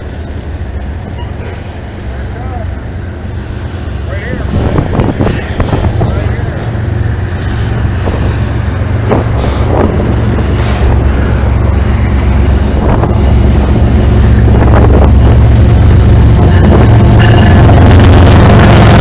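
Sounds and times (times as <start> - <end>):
diesel locomotive engines rumbling: 0.0 - 19.0
wind buffeting microphone: 3.0 - 19.0.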